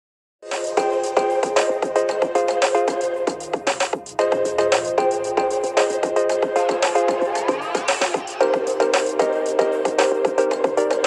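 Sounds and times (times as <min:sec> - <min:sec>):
background music: 0:00.4 - 0:11.0.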